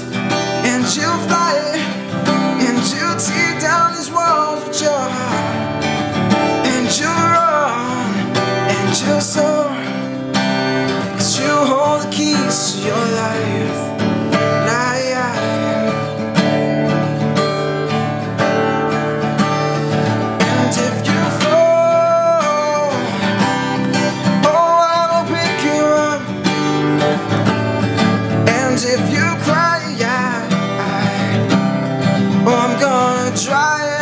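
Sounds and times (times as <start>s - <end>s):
man singing: 0.0s - 16.5s, 20.2s - 27.2s, 28.0s - 34.0s
acoustic guitar strumming chords: 0.0s - 34.0s.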